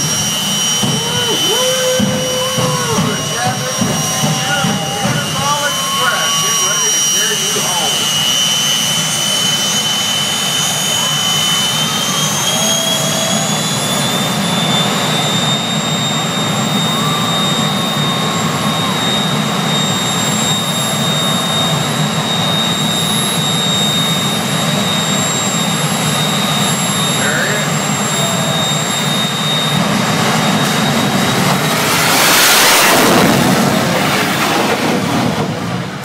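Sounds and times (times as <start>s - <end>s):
jet engine running with high whine: 0.0s - 36.0s.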